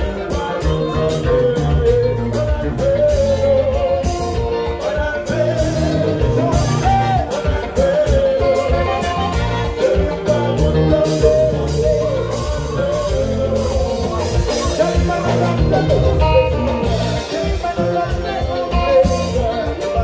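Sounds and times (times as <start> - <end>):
keyboard: 0.0 - 20.0
man singing into a microphone: 0.0 - 20.0
steady bass line: 0.0 - 20.0.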